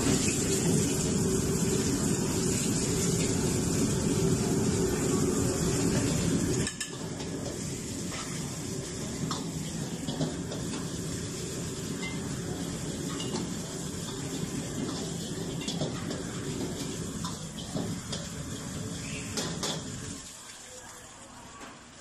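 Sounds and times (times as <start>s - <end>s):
food sizzling: 0.0s - 22.0s.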